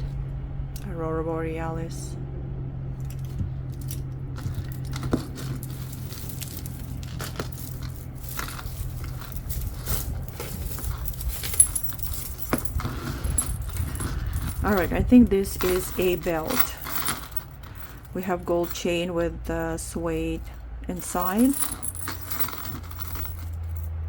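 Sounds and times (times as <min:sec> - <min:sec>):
steady low hum: 0:00.0 - 0:24.0
jewelry clinking and rustling: 0:03.1 - 0:24.0.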